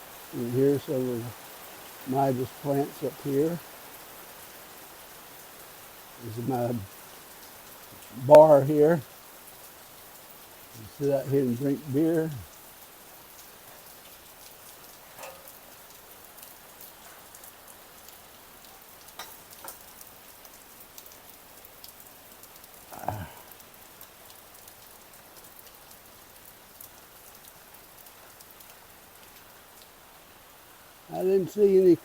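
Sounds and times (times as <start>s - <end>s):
rain drops ticking: 0.0s - 32.0s.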